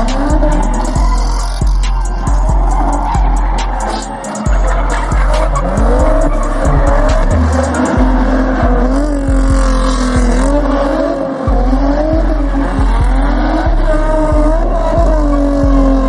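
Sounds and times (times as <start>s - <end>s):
car engine at high revs: 0.0s - 16.0s
music with heavy bass beat: 0.0s - 16.0s
tires squealing: 0.0s - 16.0s.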